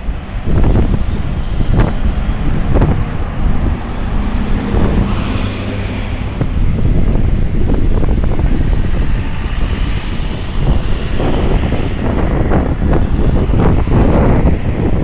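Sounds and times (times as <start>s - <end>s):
road traffic passing: 0.0s - 15.0s
wind buffeting microphone: 0.0s - 15.0s.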